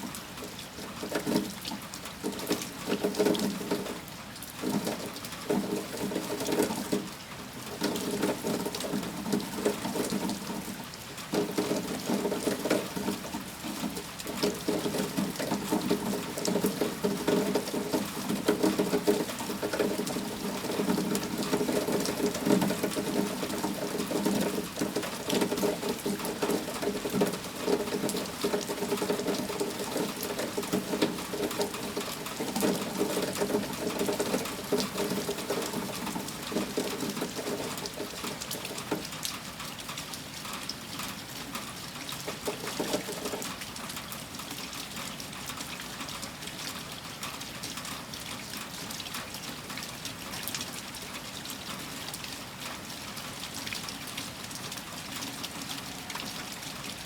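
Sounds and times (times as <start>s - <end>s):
heavy rain patter: 0.0s - 57.0s
rain splashing: 0.0s - 57.0s.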